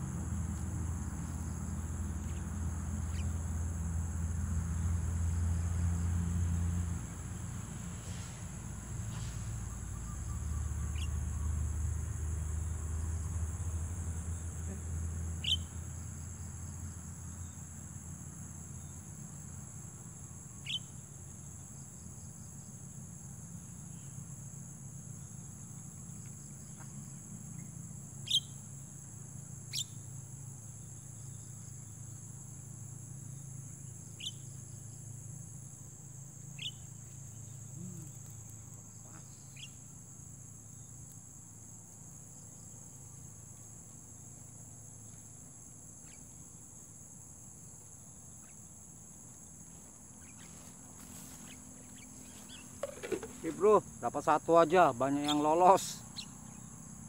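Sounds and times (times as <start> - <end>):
crickets and insects buzzing: 0.0 - 57.0.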